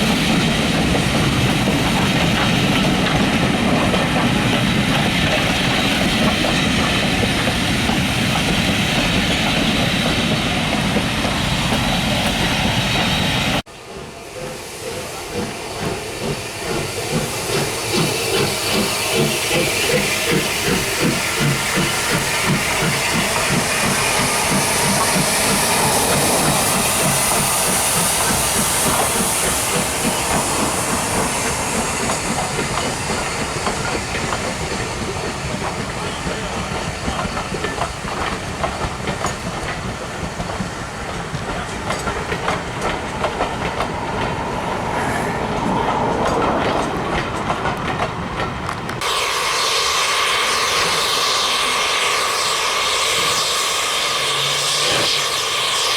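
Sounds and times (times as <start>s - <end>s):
train wheels clattering over rail joints: 0.0s - 13.1s, 14.4s - 49.2s
steam hiss: 0.0s - 47.6s, 49.0s - 55.9s
steam locomotive exhaust beats: 0.0s - 55.9s.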